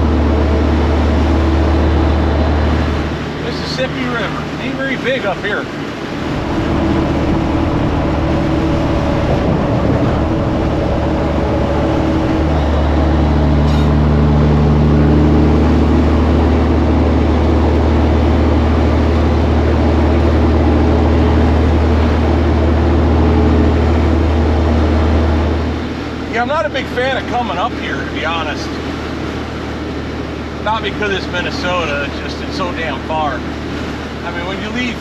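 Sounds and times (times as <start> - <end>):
road noise: 0.0 - 35.0
truck diesel engine droning: 0.0 - 35.0.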